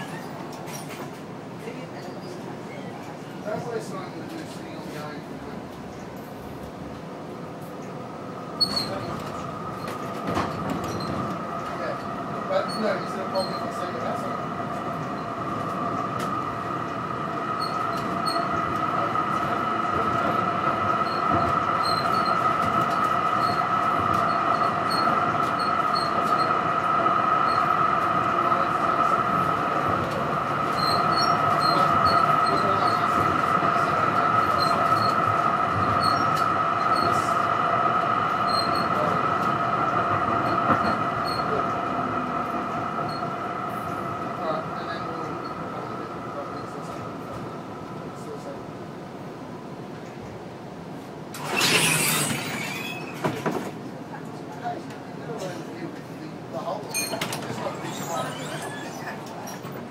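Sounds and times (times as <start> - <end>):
steel wheels rumbling on rails: 0.0 - 59.9
tram high whine: 5.4 - 54.2.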